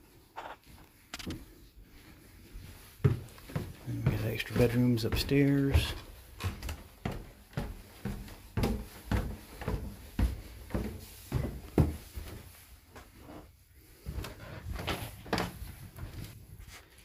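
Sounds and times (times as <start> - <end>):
footsteps on wooden stairs: 2.4 - 16.4.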